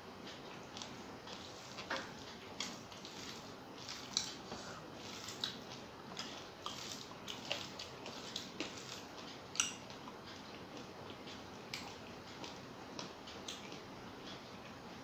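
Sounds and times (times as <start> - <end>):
fingers squishing food on a plate: 0.6 - 13.9
chewing: 0.6 - 14.4.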